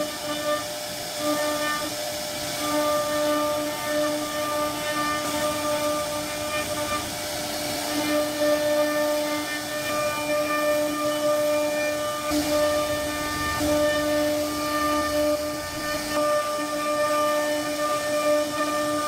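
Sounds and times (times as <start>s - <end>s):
hiss of wood cutting: 0.0s - 19.0s
router spindle whining: 0.0s - 19.0s.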